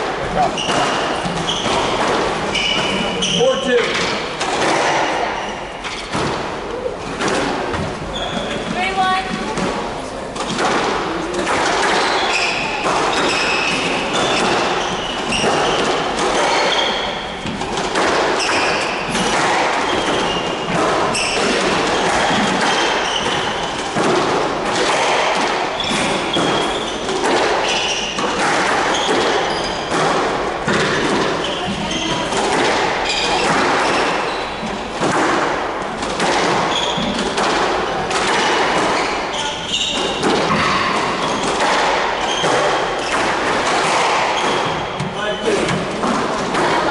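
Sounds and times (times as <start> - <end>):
shoes squeaking on wooden floor: 0.0 - 10.5, 11.6 - 35.0, 35.8 - 46.9
squash ball struck by rackets: 0.0 - 46.9.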